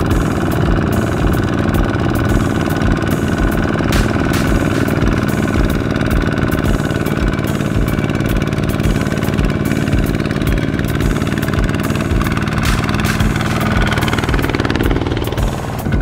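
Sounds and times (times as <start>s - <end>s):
diesel engine thudding: 0.0s - 16.0s.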